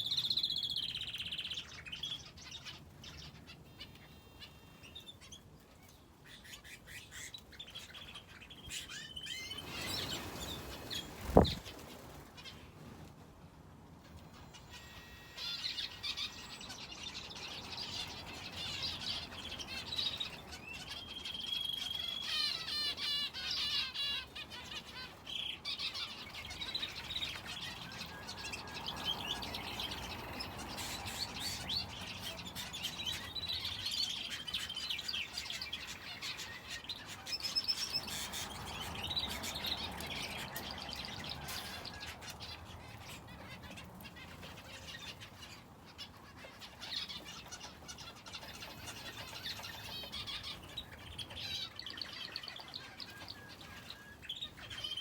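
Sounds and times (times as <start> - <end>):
canary singing: 0.0 - 12.8, 14.0 - 55.0
finches chirping: 6.2 - 12.7, 14.2 - 55.0.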